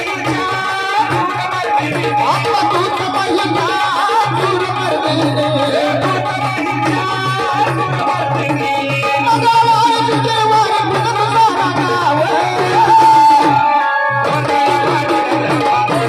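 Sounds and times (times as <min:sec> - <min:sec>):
hand drum beat: 0:00.0 - 0:16.0
person singing folk song: 0:00.0 - 0:16.0.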